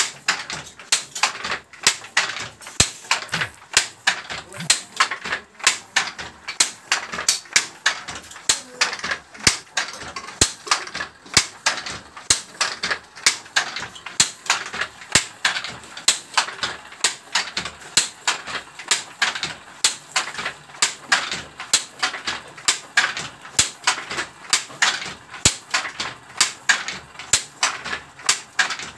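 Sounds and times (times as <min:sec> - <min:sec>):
wooden handloom clacking: 0:00.0 - 0:28.9.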